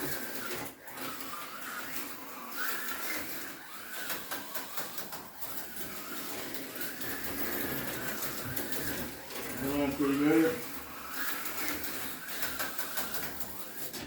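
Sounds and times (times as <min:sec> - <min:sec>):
slot car motor whining: 0:00.0 - 0:14.0.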